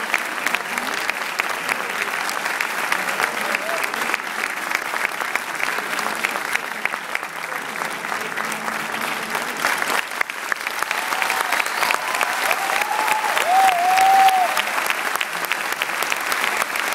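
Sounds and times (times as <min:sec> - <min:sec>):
audience applauding: 0:00.0 - 0:16.9.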